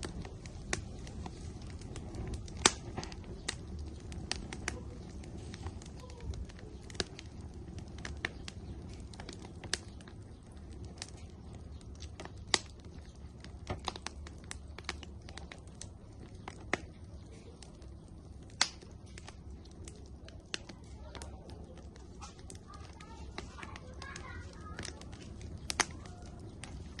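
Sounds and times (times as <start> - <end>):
fire low rumble: 0.0 - 27.0
firewood crackling and popping: 0.0 - 27.0.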